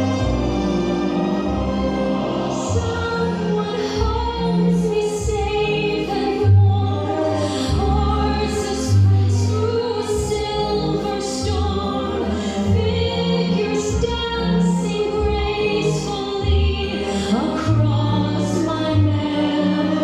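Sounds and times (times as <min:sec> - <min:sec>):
operatic choir-like singing: 0:00.0 - 0:20.0.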